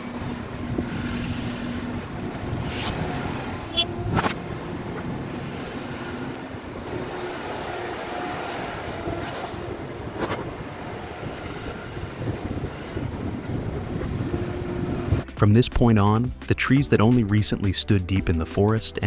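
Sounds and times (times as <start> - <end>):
diesel machinery running: 0.0 - 19.0.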